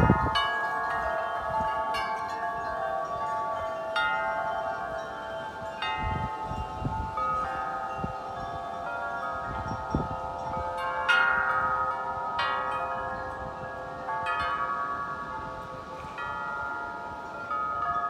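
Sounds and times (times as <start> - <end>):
gusty wind: 0.0 - 18.0
wind chimes ringing: 0.0 - 18.0.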